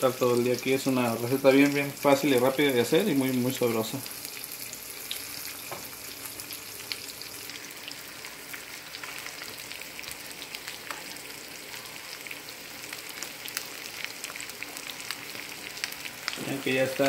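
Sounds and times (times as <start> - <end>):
fish frying in a pan: 0.0 - 17.0.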